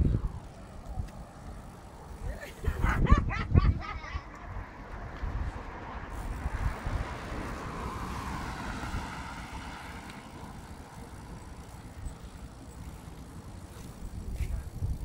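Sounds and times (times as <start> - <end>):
rushing traffic or tyres: 0.0 - 15.0
wind buffeting microphone: 0.0 - 15.0.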